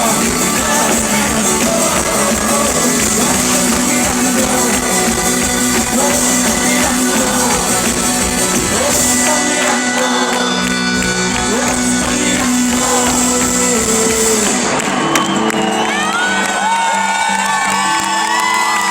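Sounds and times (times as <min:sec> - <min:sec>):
crowd shouting and singing: 0:00.0 - 0:18.9
live band playing: 0:00.0 - 0:18.9.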